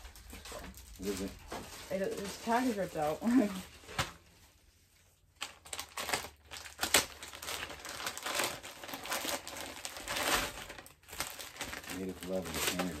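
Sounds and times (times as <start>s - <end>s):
plastic bags crinkling: 0.0s - 4.3s, 5.3s - 13.0s
plastic crackle: 0.0s - 4.4s, 5.2s - 13.0s.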